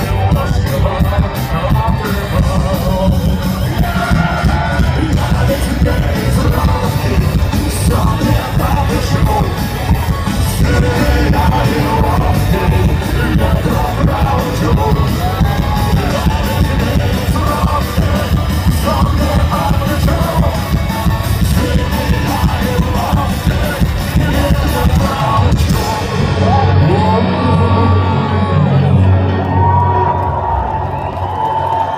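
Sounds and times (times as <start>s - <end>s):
singer yelling vocals: 0.0s - 30.4s
punk rock band playing live: 0.0s - 31.9s.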